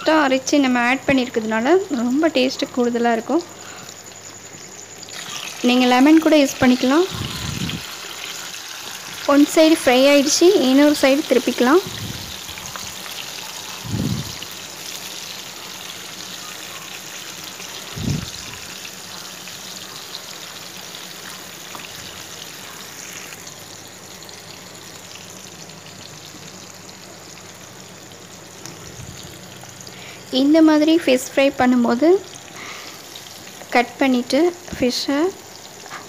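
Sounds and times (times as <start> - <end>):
fish sizzling in oil: 0.0 - 36.0.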